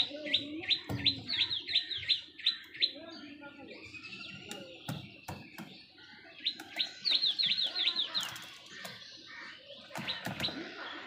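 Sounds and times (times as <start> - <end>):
other birds calling: 0.0 - 11.0
small bird chirping: 0.0 - 11.0.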